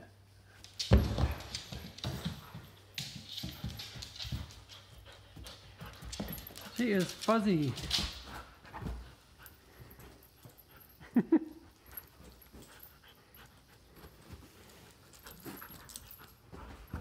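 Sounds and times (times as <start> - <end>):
dog rustling with toy: 0.4 - 11.0, 11.8 - 17.0.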